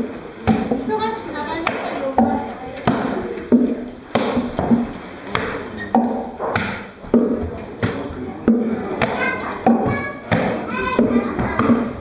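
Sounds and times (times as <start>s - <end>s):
wooden pestles pounding rice: 0.0s - 0.9s, 1.6s - 12.0s.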